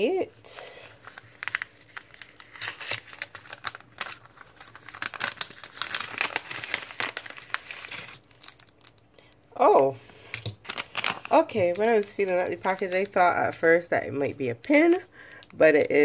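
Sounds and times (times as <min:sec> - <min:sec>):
paper wrapper crinkling: 0:00.5 - 0:09.4, 0:10.2 - 0:16.0.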